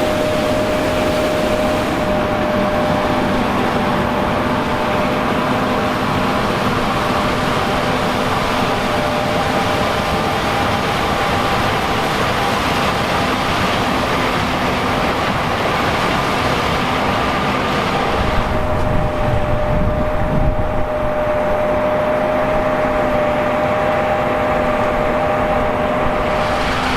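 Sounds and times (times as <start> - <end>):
whining tones: 0.0 - 15.7, 17.0 - 26.9
diesel machinery running: 0.0 - 26.9.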